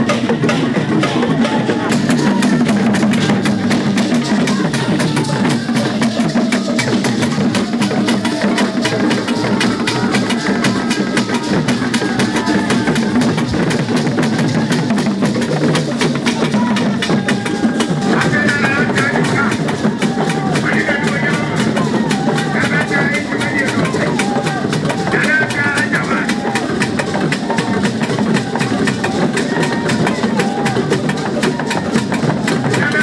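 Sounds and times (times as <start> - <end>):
wooden drums beaten fast: 0.0 - 33.0.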